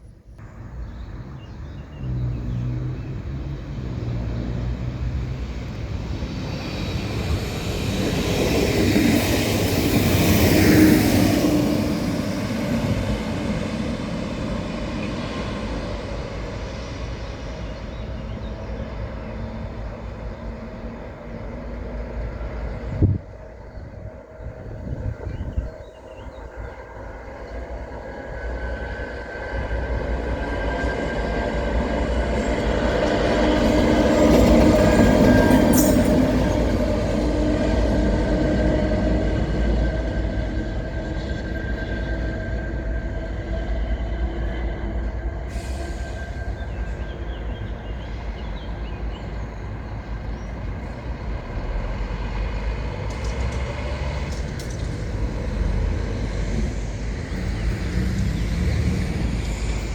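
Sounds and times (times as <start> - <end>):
train passing on rails: 0.0 - 59.9.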